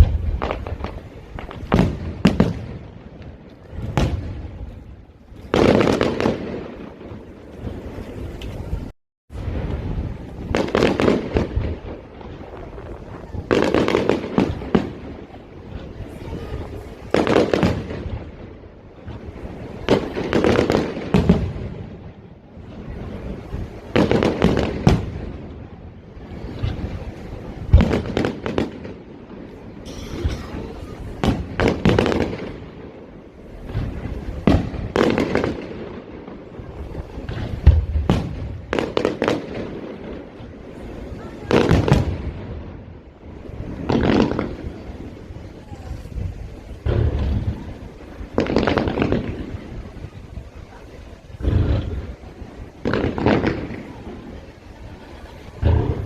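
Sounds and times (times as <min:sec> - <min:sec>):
firework bangs: 0:00.0 - 0:56.0
firework crackling: 0:00.0 - 0:56.0.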